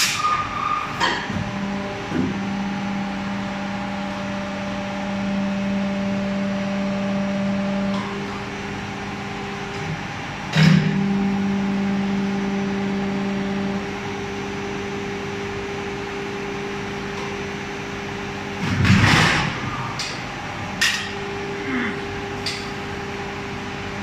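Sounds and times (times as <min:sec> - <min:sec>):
machine hum: 0:01.0 - 0:24.0.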